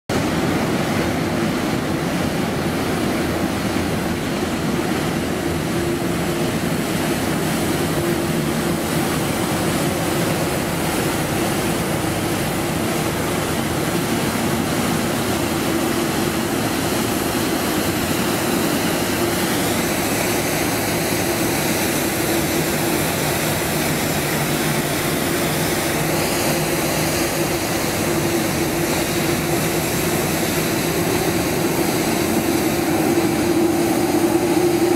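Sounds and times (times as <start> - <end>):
diesel engine and machinery: 0.1 - 34.9
high whine: 0.1 - 34.9.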